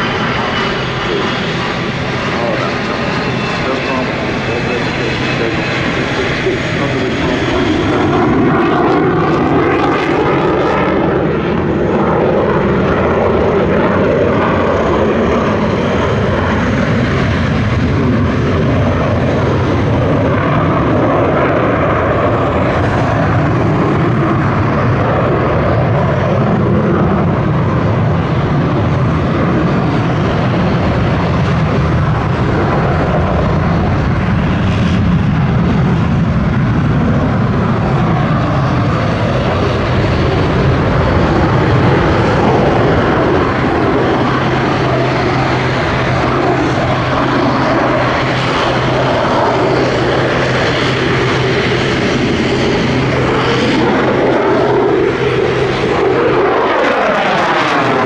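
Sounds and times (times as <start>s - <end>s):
jet engine roaring: 0.0s - 58.0s.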